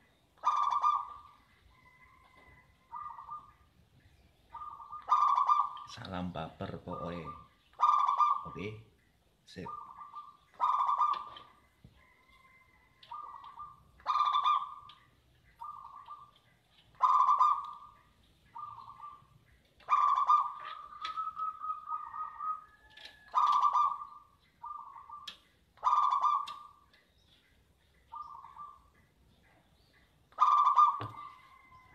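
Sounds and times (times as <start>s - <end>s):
dove cooing song: 0.0s - 3.7s, 4.4s - 8.9s, 9.5s - 27.0s, 28.0s - 31.9s.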